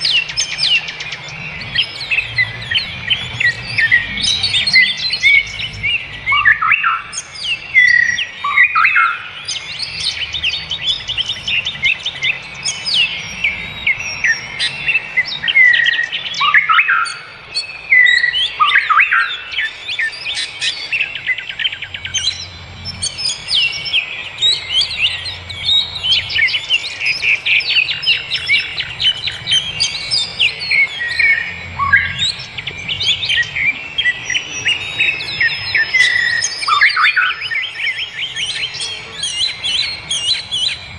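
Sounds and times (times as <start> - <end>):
forest birds chorus: 0.0 - 40.9.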